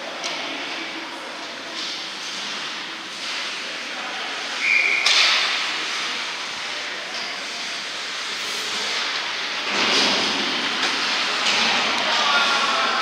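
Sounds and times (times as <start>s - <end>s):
spectators' voices: 0.0s - 13.0s.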